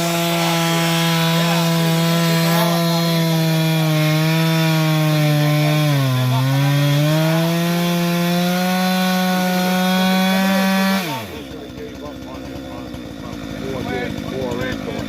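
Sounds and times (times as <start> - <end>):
chainsaw cutting through log: 0.0 - 15.0.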